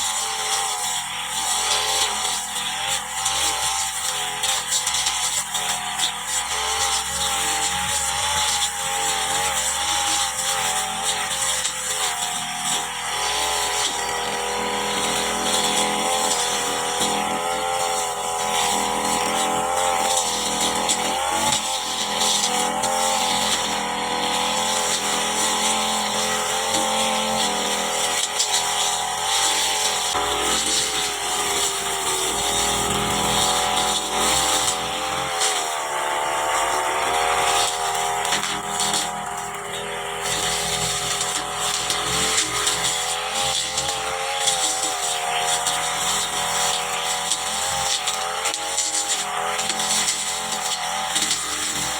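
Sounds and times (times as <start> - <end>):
brush cutter cutting grass: 0.0 - 51.9.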